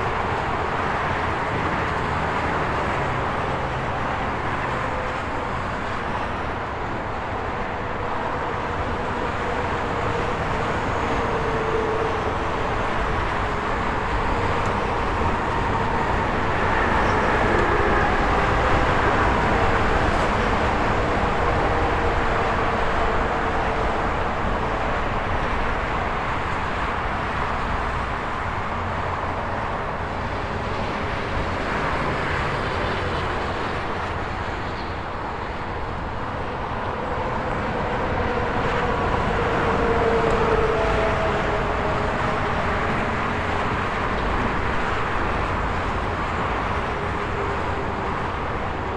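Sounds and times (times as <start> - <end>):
highway traffic noise: 0.0 - 48.9.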